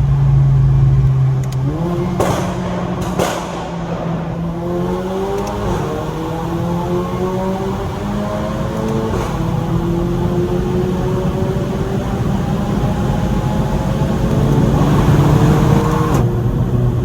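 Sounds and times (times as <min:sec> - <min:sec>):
car engine accelerating: 0:00.0 - 0:17.0
exhaust cracks: 0:00.0 - 0:17.0.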